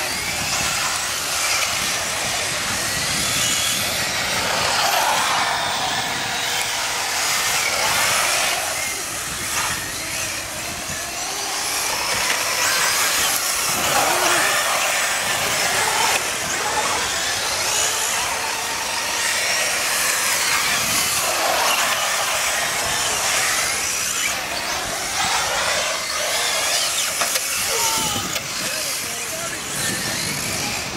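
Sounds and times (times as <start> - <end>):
radio-controlled car motors whining: 0.0 - 30.9.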